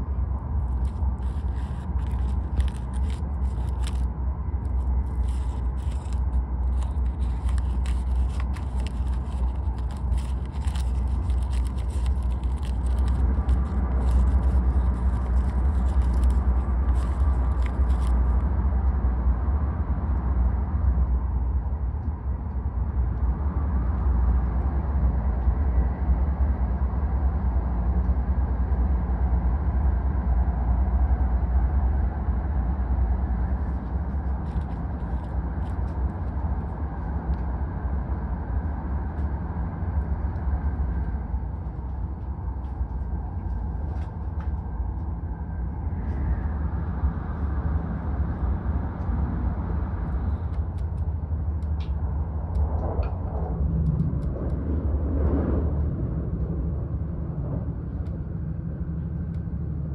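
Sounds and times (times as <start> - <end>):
train low rumble: 0.0 - 59.9.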